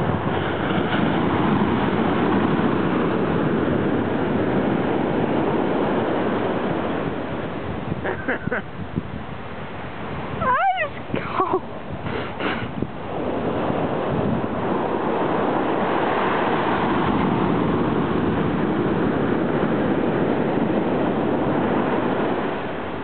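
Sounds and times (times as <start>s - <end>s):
ocean surf washing up beach: 0.0s - 23.0s.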